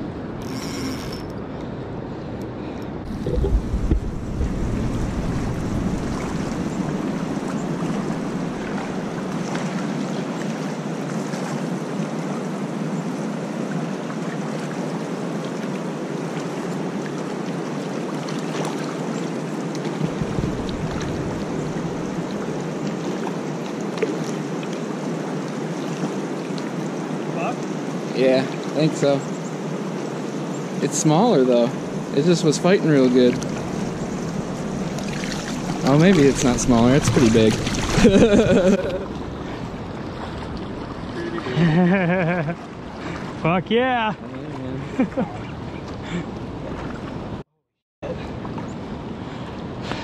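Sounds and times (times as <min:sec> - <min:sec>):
river current rushing: 0:00.0 - 0:02.0, 0:02.6 - 0:45.2.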